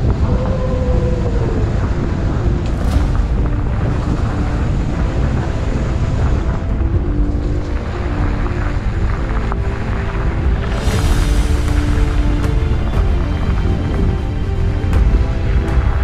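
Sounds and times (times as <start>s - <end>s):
bike tyres on loose gravel: 0.0s - 16.0s
wind buffeting microphone: 0.0s - 16.0s.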